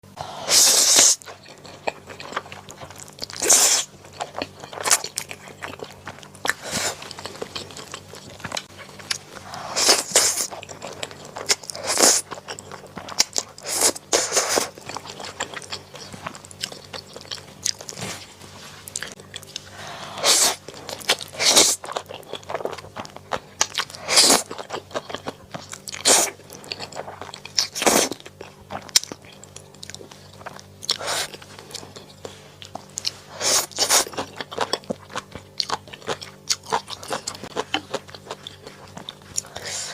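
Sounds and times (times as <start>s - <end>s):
faint low hum: 0.0s - 39.9s
person chewing and crunching: 0.4s - 39.9s.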